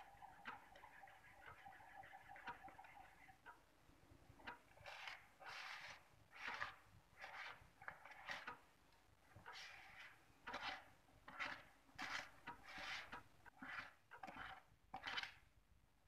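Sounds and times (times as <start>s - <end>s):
whisk beating batter in bowl: 0.0s - 3.4s, 4.5s - 8.6s, 9.3s - 15.4s.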